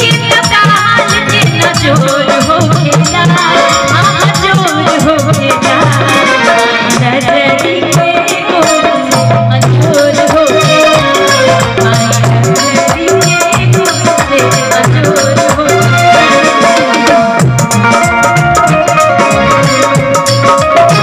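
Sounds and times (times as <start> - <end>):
amplified band with percussion: 0.0 - 21.0
woman singing into microphone: 0.0 - 21.0.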